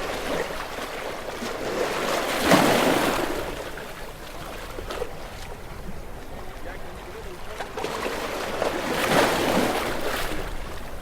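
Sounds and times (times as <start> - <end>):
waves washing onto shore: 0.0 - 11.0.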